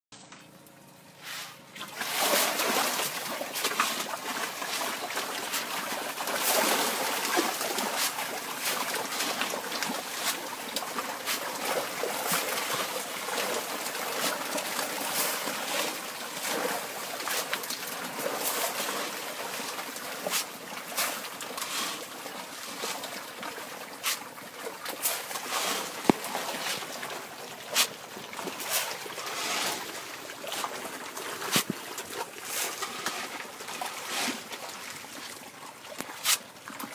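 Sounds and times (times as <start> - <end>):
fish thrashing in water: 1.5 - 36.9.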